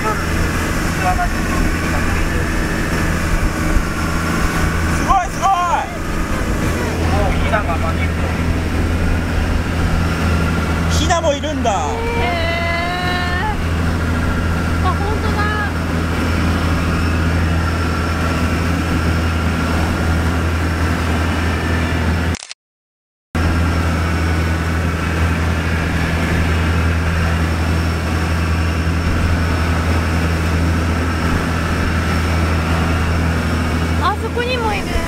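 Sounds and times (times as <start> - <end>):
boat engine droning: 0.0 - 22.4, 23.4 - 35.0.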